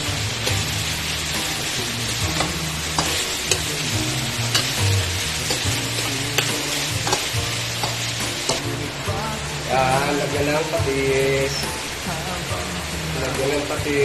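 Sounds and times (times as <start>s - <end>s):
meat sizzling in a wok: 0.0s - 14.0s.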